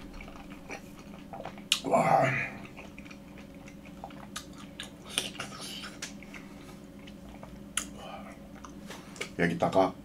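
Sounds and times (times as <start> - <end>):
person chewing soft food: 0.0 - 9.3.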